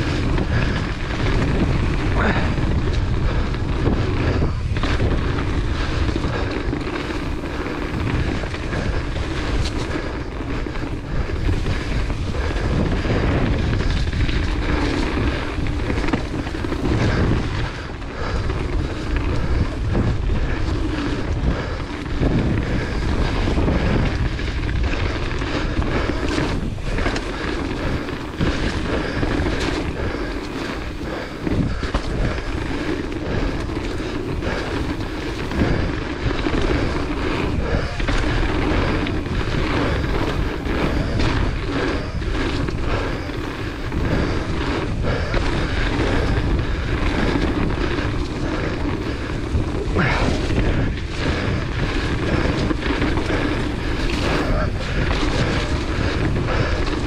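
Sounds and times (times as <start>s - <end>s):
bike knocking and rattling: 0.0s - 57.0s
tyres rumbling on wet dirt: 0.0s - 57.0s
wind rushing over microphone: 0.0s - 57.0s.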